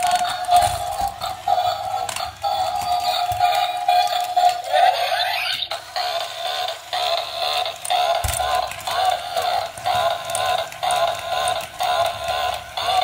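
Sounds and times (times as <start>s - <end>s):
tinny electronic toy melody: 0.0s - 13.0s.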